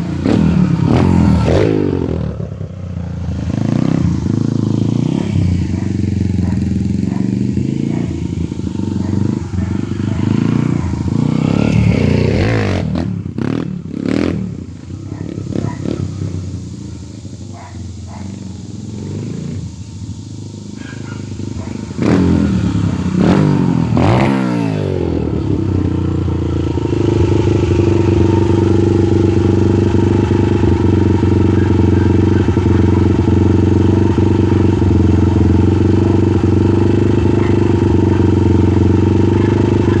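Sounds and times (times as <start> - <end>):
motorcycle engine revving and idling: 0.0 - 40.0.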